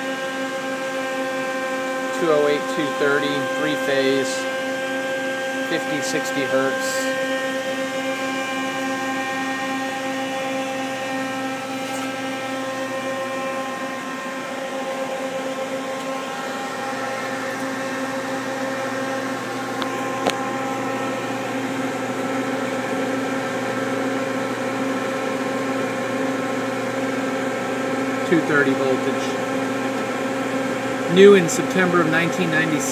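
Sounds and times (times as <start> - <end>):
cooling fans running: 0.0 - 32.9
lathe humming: 0.0 - 32.9.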